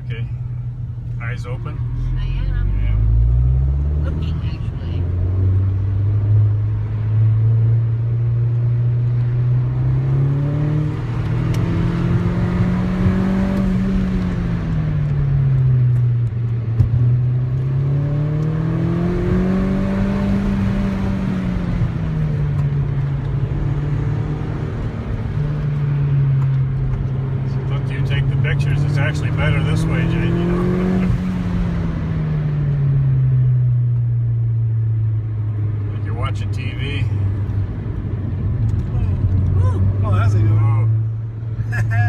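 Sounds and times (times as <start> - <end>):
car engine revving: 0.0 - 42.0
tyre and road noise: 0.0 - 42.0.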